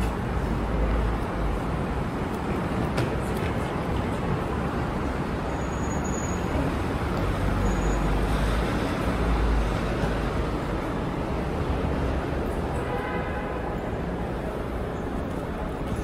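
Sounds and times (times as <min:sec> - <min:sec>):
steady road traffic rumble: 0:00.0 - 0:16.0.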